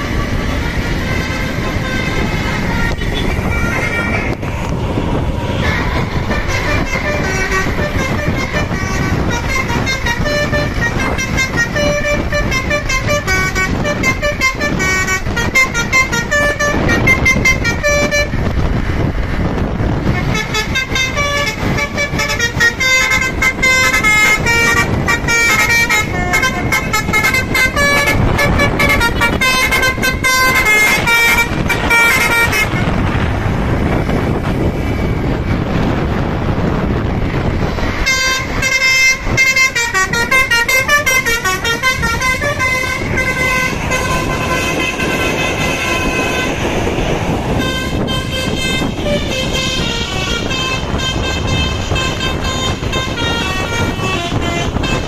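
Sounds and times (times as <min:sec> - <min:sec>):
musical air horn melody: 0:00.0 - 0:04.4, 0:05.4 - 0:18.5, 0:20.0 - 0:33.0, 0:38.0 - 0:55.0
vehicle noise: 0:00.0 - 0:55.0.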